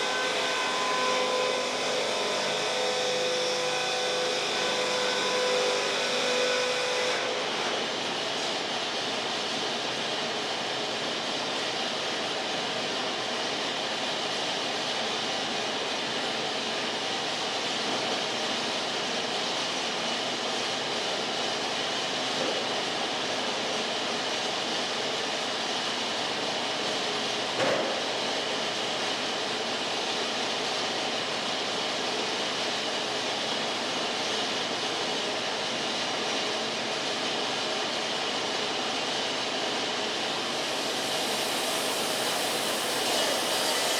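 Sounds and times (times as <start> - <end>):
band sawmill running: 0.0 - 43.9.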